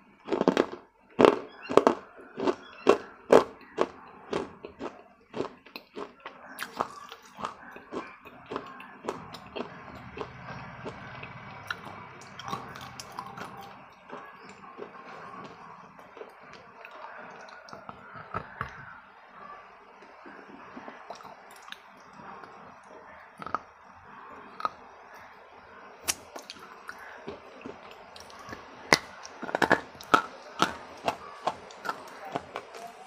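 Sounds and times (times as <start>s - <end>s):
hard clay crunching when chewed: 0.2s - 19.0s, 20.3s - 25.3s, 26.0s - 33.0s.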